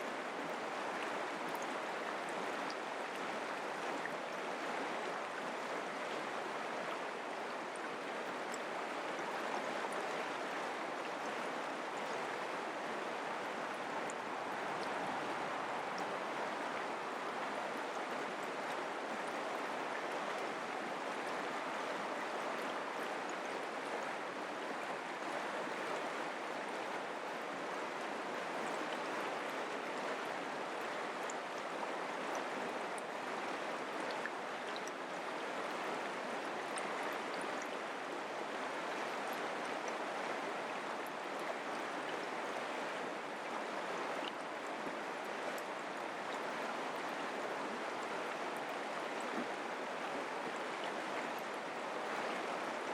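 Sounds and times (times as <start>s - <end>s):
creek water rushing: 0.0s - 52.9s.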